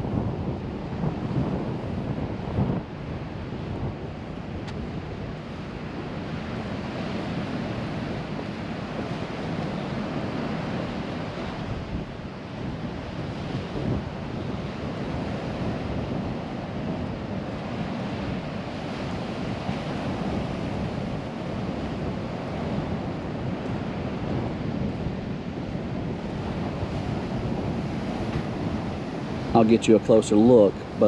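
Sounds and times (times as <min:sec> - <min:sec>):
surf breaking on shore: 0:00.0 - 0:31.0
wind buffeting microphone: 0:00.0 - 0:31.0.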